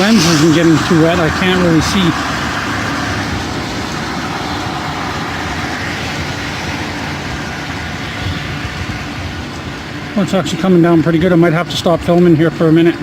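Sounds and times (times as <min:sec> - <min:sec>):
heavy rain hiss: 0:00.0 - 0:13.0
passing highway traffic: 0:00.0 - 0:13.0.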